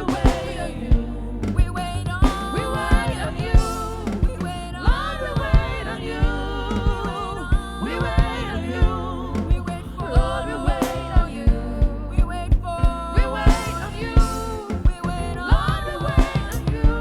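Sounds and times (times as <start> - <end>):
band with steady drum beat: 0.0 - 17.0.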